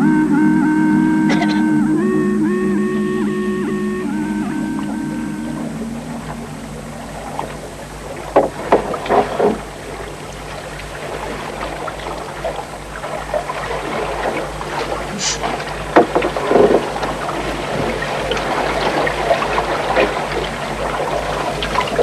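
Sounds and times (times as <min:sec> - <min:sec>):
steady low hum: 0:00.0 - 0:22.0
paddles splashing in water: 0:03.0 - 0:22.0.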